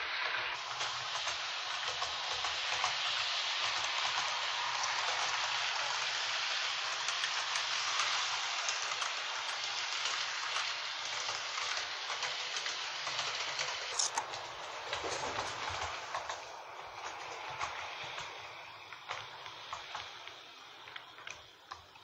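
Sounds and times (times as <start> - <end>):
model train rolling on track: 0.0 - 22.0.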